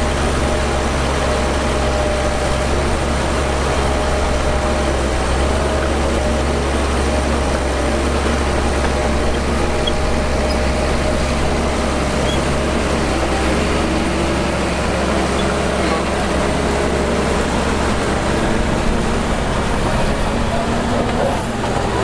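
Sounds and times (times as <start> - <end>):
diesel machinery droning: 0.0 - 22.0.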